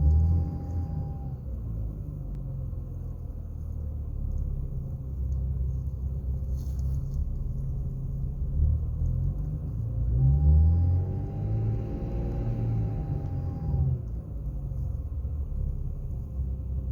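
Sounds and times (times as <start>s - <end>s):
engine low rumble: 0.0s - 16.9s.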